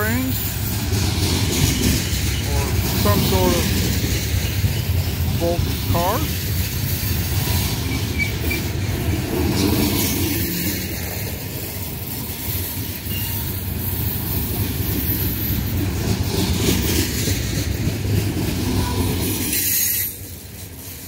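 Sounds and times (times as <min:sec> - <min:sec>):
freight train wheels rumbling on rail: 0:00.0 - 0:21.0.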